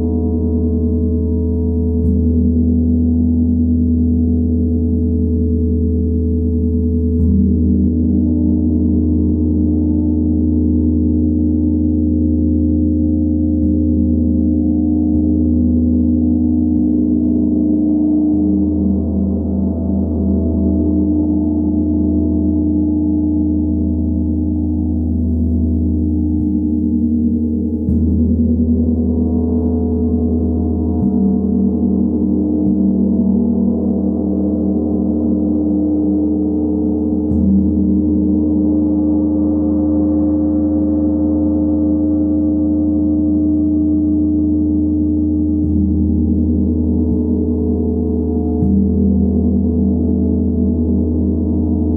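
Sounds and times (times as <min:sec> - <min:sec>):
gong low hum: 0:00.0 - 0:51.9.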